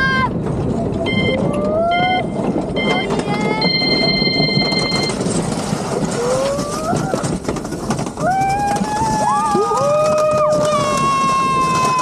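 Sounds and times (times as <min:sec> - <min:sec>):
coaster cart rumbling on rail: 0:00.0 - 0:12.0
wind noise: 0:00.0 - 0:12.0.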